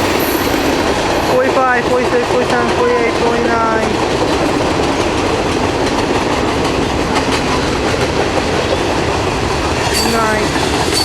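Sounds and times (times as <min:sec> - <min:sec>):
freight train wheels rumbling: 0:00.0 - 0:11.0
wheels clacking over rail joints: 0:00.0 - 0:11.0.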